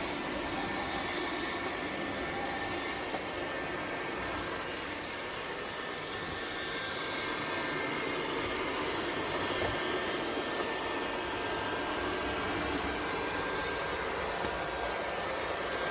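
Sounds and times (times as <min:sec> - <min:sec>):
robot vacuum whirring: 0:00.0 - 0:15.9.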